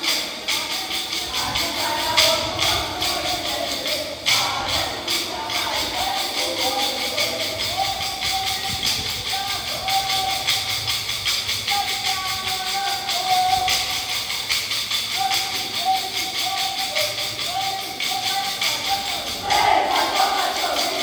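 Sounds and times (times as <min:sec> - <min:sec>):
people singing: 0:00.0 - 0:21.0
wooden sticks clacking: 0:00.0 - 0:21.0.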